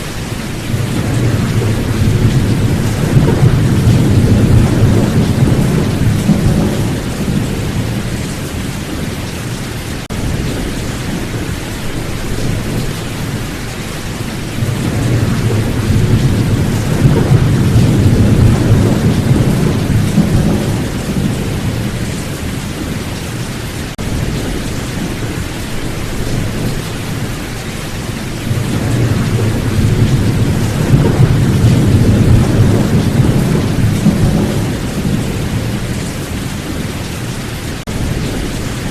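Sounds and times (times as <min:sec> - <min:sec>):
heavy rain: 0:00.0 - 0:38.9
thunder rumbling: 0:00.0 - 0:38.9.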